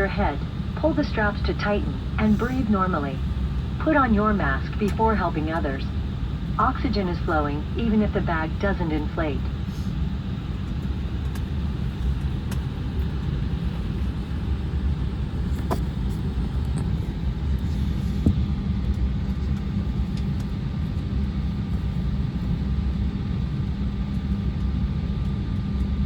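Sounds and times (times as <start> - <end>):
jet cabin engine rumble: 0.0 - 26.0.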